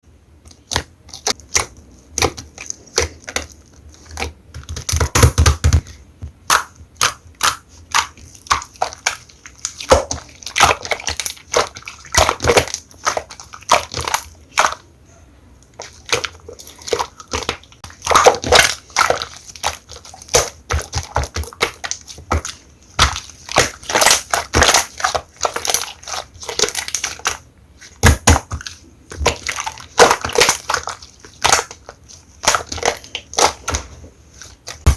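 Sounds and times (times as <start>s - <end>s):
hands squishing slime: 0.4s - 34.9s.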